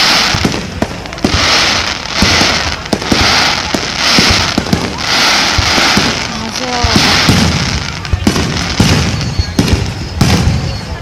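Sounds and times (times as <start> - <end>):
fireworks booming: 0.0 - 11.0
fireworks crackling and hissing: 0.0 - 11.0.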